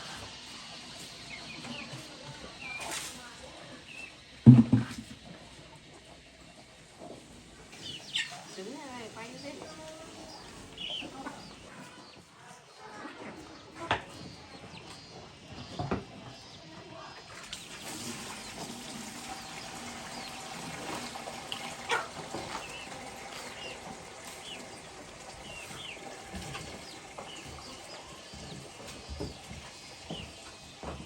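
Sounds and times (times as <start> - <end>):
birds chirping: 0.3 - 4.3, 7.6 - 31.0.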